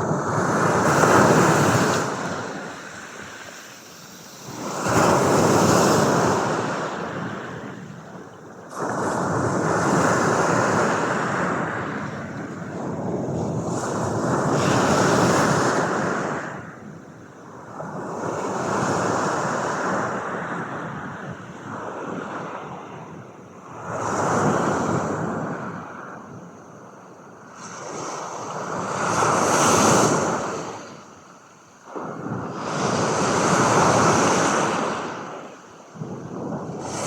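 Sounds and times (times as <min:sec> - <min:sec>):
ocean waves breaking on shore: 0:00.0 - 0:26.3, 0:27.5 - 0:37.0.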